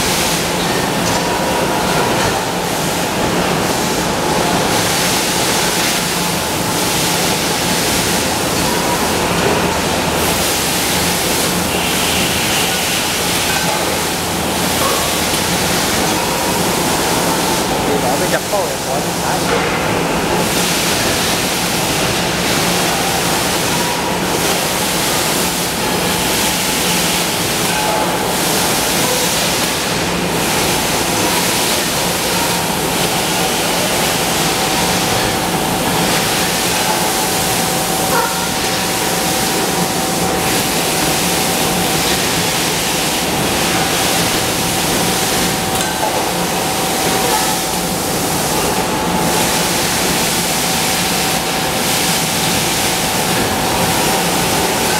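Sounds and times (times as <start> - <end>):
production line machinery din: 0.0 - 54.9.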